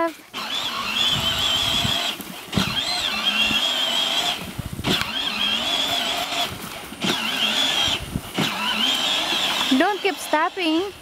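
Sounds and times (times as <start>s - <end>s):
toy car electric motor whining: 0.2s - 11.0s.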